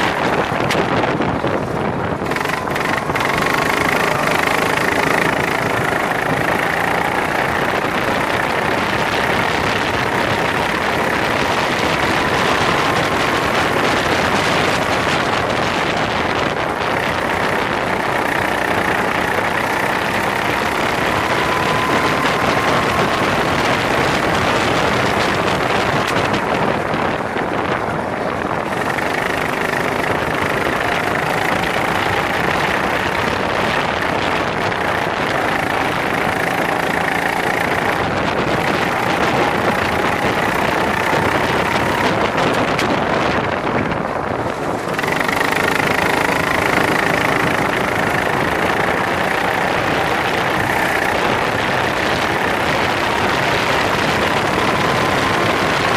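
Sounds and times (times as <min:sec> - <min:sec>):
kart engine running hard: 0:00.0 - 0:55.9
wind rush over microphone: 0:00.0 - 0:55.9.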